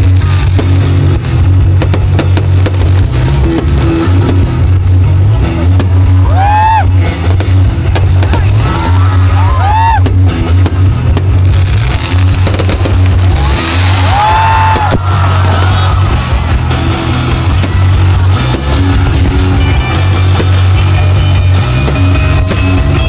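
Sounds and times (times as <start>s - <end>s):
fireworks bursting: 0.0s - 23.0s
loud music with heavy bass: 0.0s - 23.0s.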